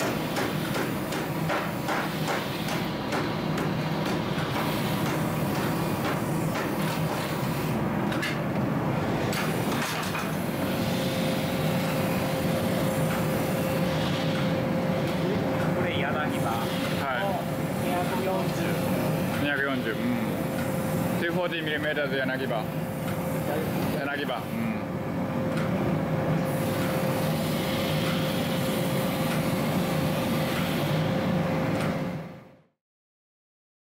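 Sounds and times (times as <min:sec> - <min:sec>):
gas forge burner roaring: 0:00.0 - 0:32.4
steady hum: 0:00.0 - 0:32.5.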